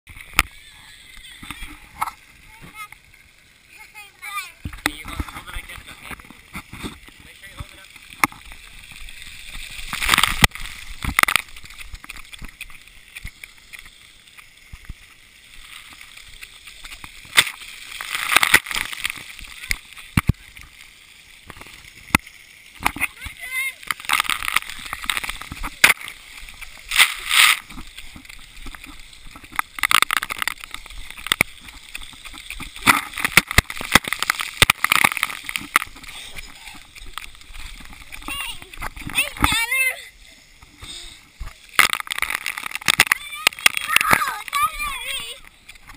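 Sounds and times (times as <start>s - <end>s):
water splashing and spraying: 0.1s - 45.9s.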